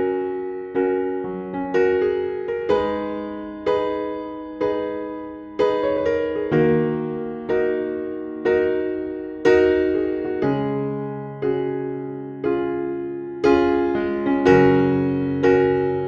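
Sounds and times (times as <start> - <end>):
electric piano slow chords: 0.0 - 16.0.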